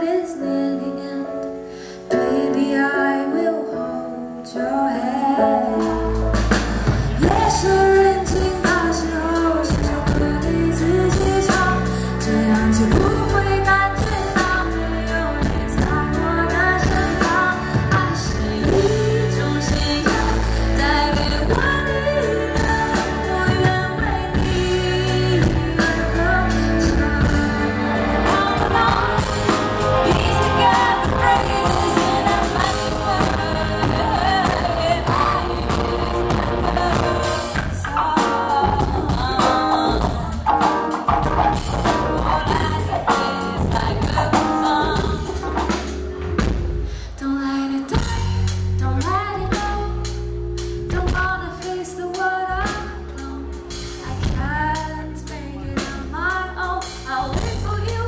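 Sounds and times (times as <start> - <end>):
woman singing: 0.0 - 46.0, 47.0 - 58.0
digital piano: 0.0 - 58.0
drums: 5.4 - 58.0
bass guitar: 5.7 - 58.0.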